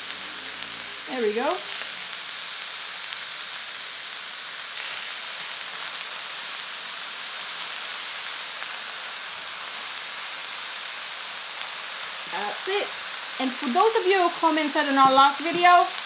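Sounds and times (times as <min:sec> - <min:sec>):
prawns sizzling in hot oil: 0:00.0 - 0:16.0.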